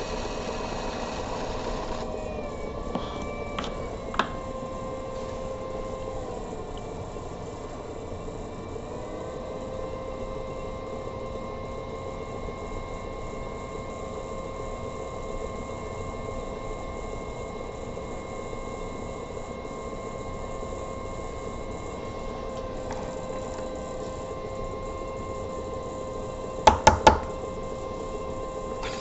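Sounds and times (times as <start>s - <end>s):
pottery wheel motor whine: 0.0s - 29.0s.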